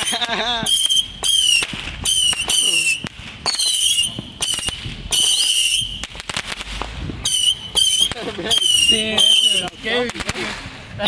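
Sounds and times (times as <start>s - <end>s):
firework whistles: 0.0s - 9.9s
firework cracks and pops: 0.0s - 11.0s.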